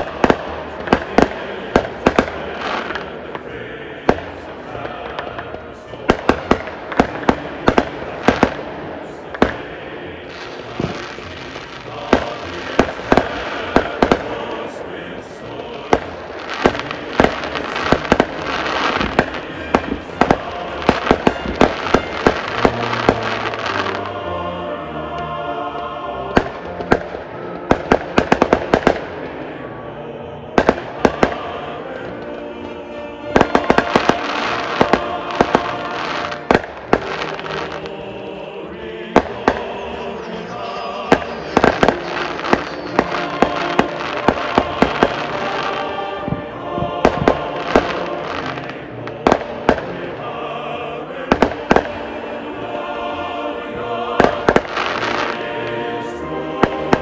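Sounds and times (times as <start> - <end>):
fireworks bangs: 0.0 - 24.1, 26.3 - 29.2, 30.6 - 32.4, 33.2 - 37.9, 41.0 - 50.0, 51.2 - 52.2, 54.2 - 57.0.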